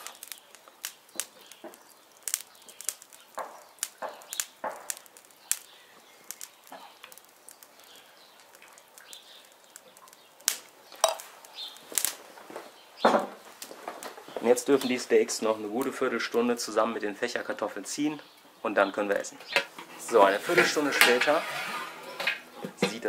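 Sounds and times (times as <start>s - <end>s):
food crackling on charcoal grill: 0.0s - 23.0s.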